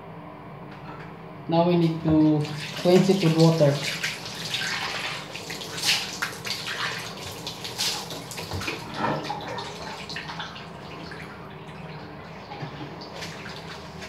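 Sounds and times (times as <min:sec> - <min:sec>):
tap water running and splashing: 0:02.0 - 0:14.0.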